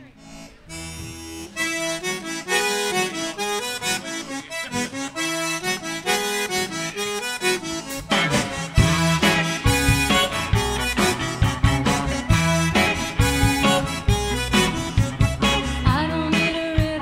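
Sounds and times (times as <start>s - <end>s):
lively instrumental music: 0.0s - 17.0s.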